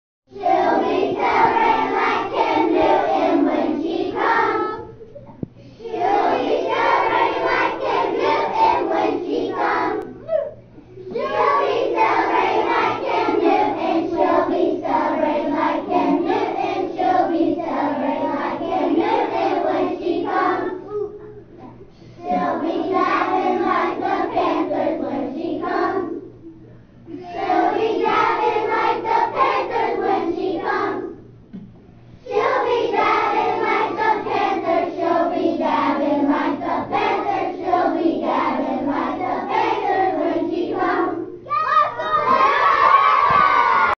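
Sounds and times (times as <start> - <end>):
children singing in unison: 0.4 - 4.9, 5.8 - 10.1, 11.1 - 20.8, 22.2 - 26.3, 27.1 - 31.1, 32.3 - 41.3.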